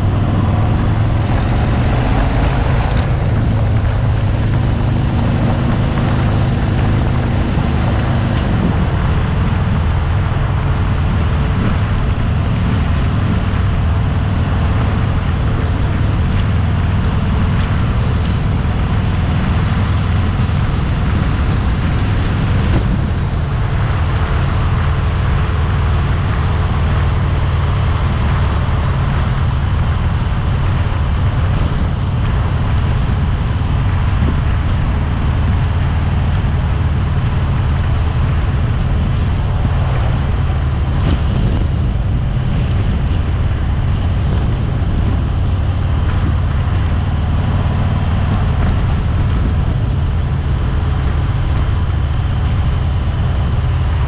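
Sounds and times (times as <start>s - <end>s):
motorcycle engine running: 0.0s - 54.0s
road noise while riding: 0.0s - 54.0s
wind noise on microphone: 0.0s - 54.0s.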